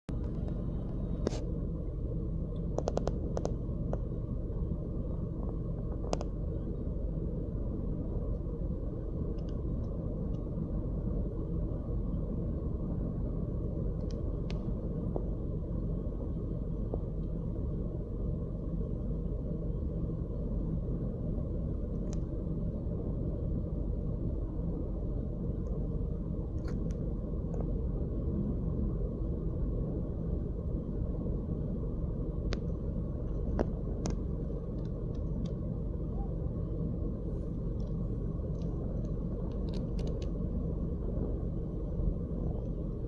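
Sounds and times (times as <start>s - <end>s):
low rumbling noise: 0.0s - 43.0s.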